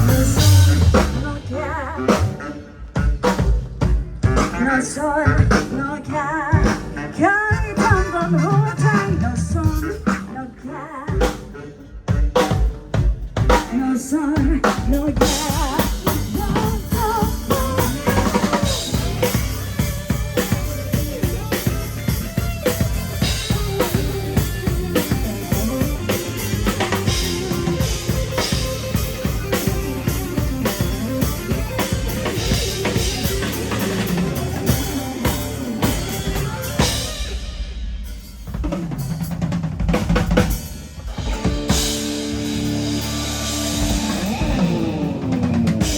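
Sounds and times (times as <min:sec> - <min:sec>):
live band playing: 0:00.0 - 0:45.9.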